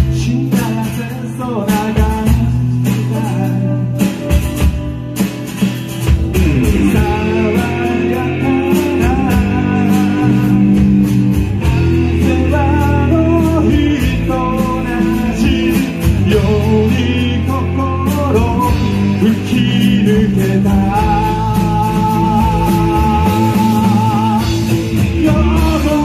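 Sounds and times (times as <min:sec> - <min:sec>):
man singing into a microphone: 0:00.0 - 0:04.3, 0:06.7 - 0:26.0
live pop-rock band: 0:00.0 - 0:26.0
steady drum beat: 0:00.0 - 0:26.0
strummed acoustic guitar: 0:00.0 - 0:26.0.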